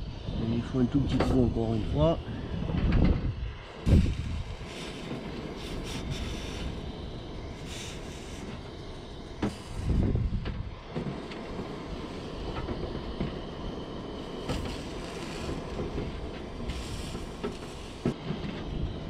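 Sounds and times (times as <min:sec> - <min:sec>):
gas burner running: 0:00.0 - 0:19.0.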